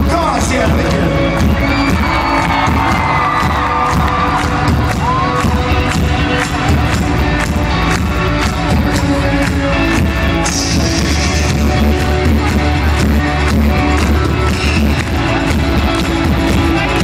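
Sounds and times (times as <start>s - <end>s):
bass guitar: 0.0s - 17.0s
electric guitar: 0.0s - 17.0s
steady drum beat: 0.0s - 17.0s.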